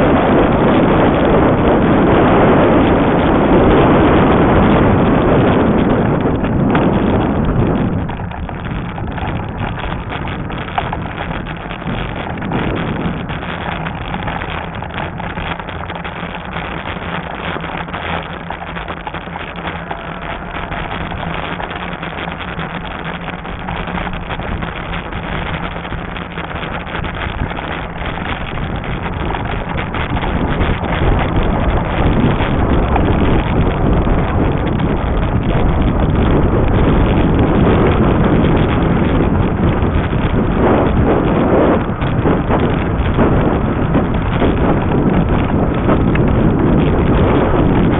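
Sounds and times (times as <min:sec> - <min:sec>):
e-bike running rumble: 0:00.0 - 0:47.9
wind on microphone: 0:00.0 - 0:47.9.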